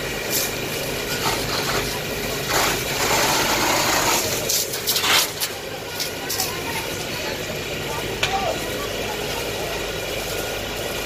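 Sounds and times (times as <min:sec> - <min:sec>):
fire truck engine running: 0:00.0 - 0:11.0.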